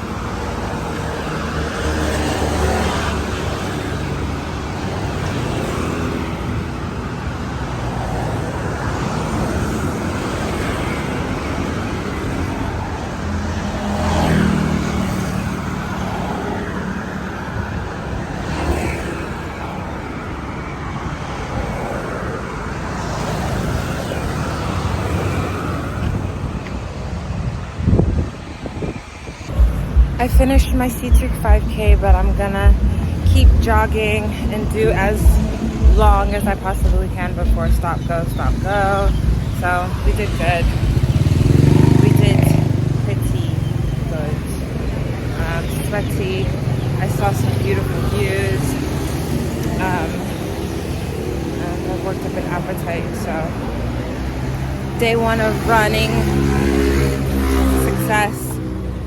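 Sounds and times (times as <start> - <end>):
traffic engines and tyres: 0.0 - 59.0
vehicles passing close: 0.0 - 59.0.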